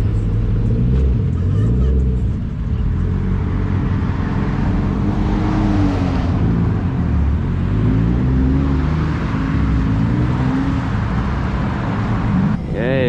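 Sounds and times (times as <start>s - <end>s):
sports car engines rumbling: 0.0s - 13.0s.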